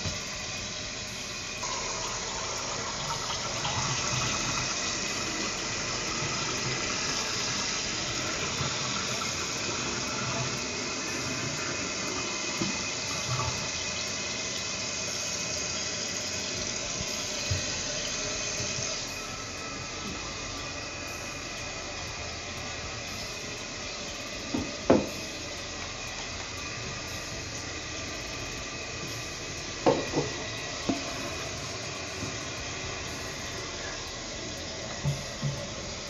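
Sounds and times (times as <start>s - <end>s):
toilet flushing and refilling: 0.0s - 36.0s.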